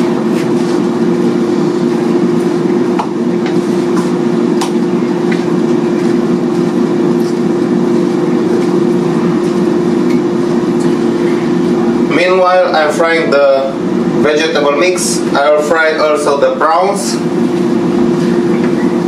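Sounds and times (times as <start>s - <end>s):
appliance fan humming: 0.0s - 19.0s.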